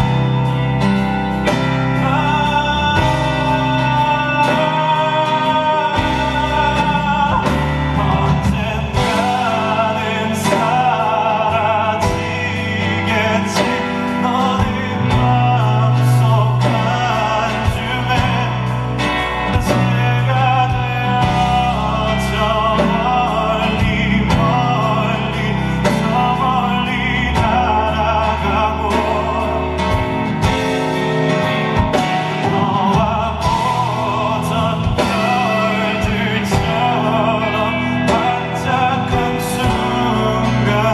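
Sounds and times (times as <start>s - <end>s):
live band music: 0.0s - 40.9s
male vocalist singing: 0.0s - 40.9s.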